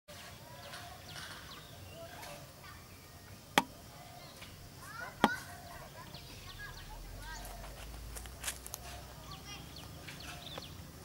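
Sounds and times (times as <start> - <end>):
birds chirping: 0.1 - 10.9.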